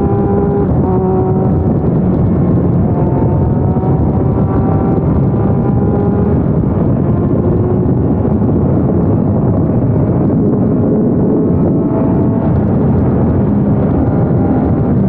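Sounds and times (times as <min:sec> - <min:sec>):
motorcycle engine running hard: 0:00.0 - 0:15.0
wind rush on microphone: 0:00.0 - 0:15.0.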